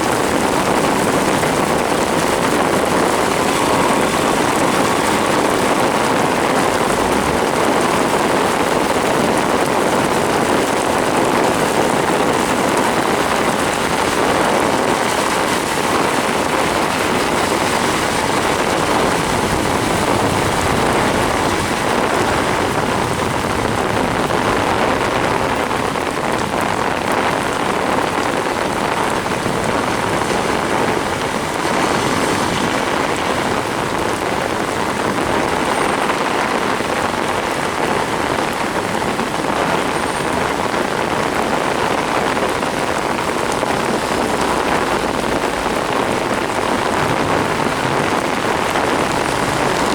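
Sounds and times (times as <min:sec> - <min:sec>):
heavy rain on a car: 0:00.0 - 0:49.9.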